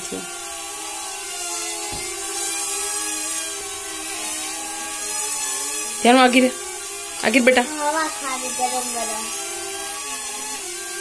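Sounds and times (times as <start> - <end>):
quadcopter buzzing whine: 0.0 - 11.0.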